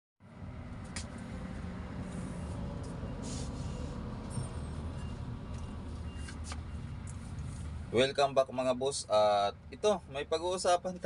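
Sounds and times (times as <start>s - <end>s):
low rumble of road traffic: 0.2s - 11.0s.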